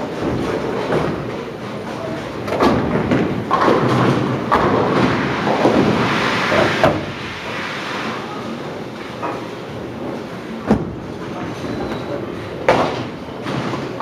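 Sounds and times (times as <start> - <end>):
bowling alley rumble: 0.0 - 14.0.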